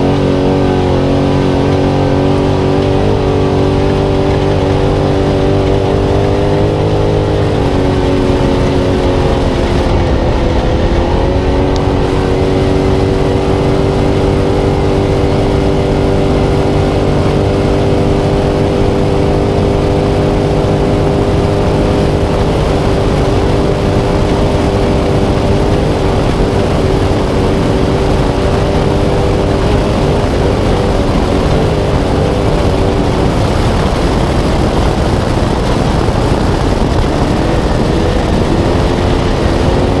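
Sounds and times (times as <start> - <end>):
loud driving noise: 0.0 - 40.0
truck engine running at high revs: 0.0 - 40.0.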